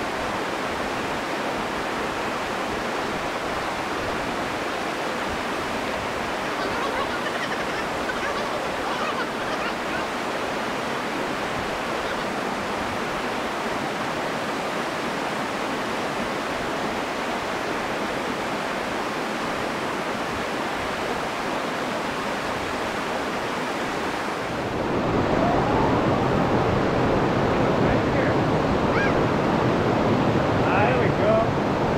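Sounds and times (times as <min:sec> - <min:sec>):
water rushing over rocks: 0:00.0 - 0:31.9.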